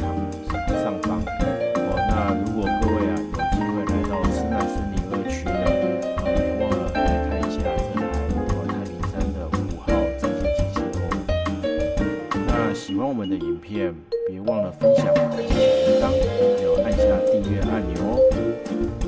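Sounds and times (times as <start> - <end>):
jazz piano over drum beat: 0.0 - 13.0, 14.8 - 19.0.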